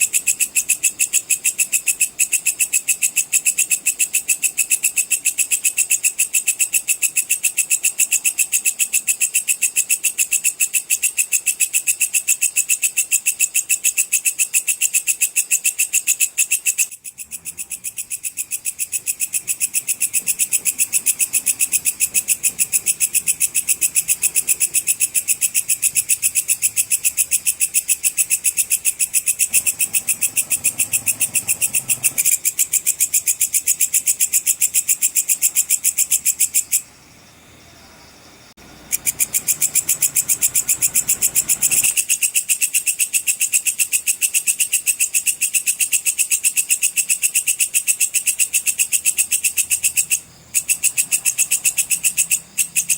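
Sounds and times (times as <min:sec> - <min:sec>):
katydid chirping trill: 0:00.0 - 0:37.0, 0:38.7 - 0:52.9.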